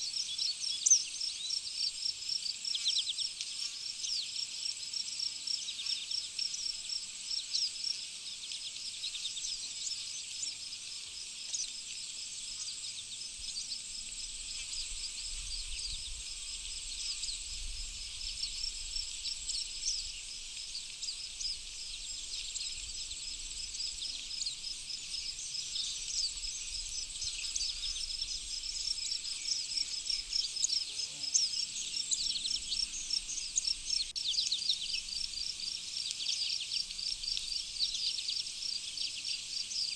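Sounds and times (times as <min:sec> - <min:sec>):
insect trill: 0:00.0 - 0:39.9
songbirds chirping: 0:00.0 - 0:39.9.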